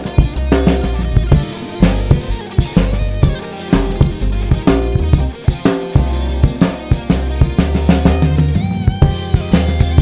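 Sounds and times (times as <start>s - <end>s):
bass and guitar backing: 0.0s - 10.0s
drum kit shuffle groove: 0.0s - 10.0s.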